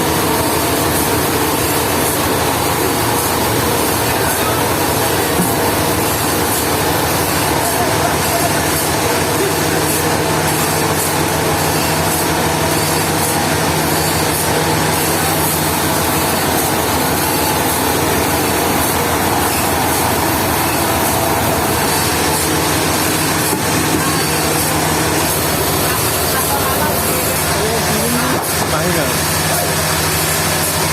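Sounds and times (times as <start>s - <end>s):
sawmill machinery engine running: 0.0s - 30.9s.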